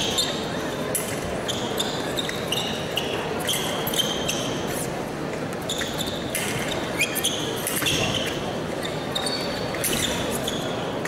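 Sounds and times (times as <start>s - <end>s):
shoes squeaking on floor: 0.0s - 4.9s, 5.6s - 11.0s
large hall ambience: 0.0s - 11.0s.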